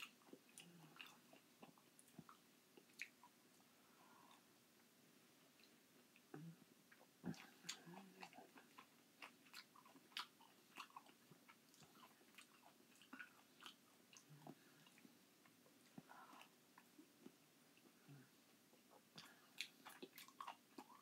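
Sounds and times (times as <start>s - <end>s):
chewing and mouth smacking: 0.0s - 3.6s, 5.6s - 18.0s, 18.7s - 21.0s.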